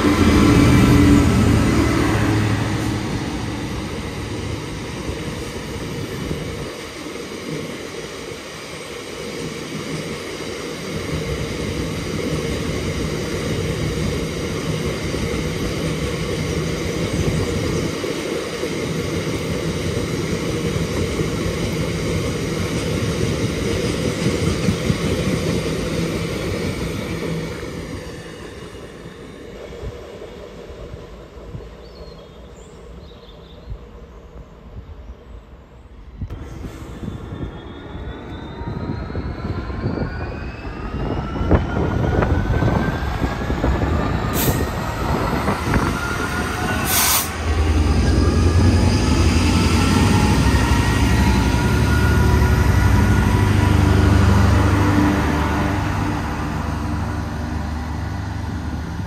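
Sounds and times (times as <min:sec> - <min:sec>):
diesel locomotive engine passing: 0:00.0 - 0:59.0.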